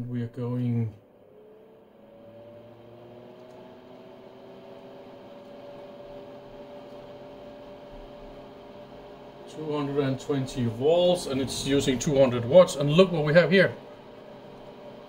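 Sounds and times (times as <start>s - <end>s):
cooling fan whine rising in pitch: 0.0s - 15.0s
low hum: 0.0s - 15.0s.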